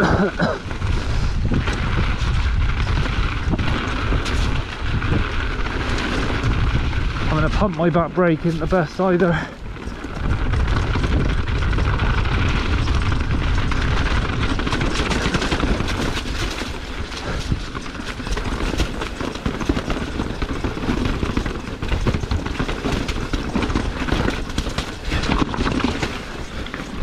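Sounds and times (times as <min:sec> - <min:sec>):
bike rattling: 0:00.0 - 0:27.0
tyres crunching over stones: 0:00.0 - 0:27.0.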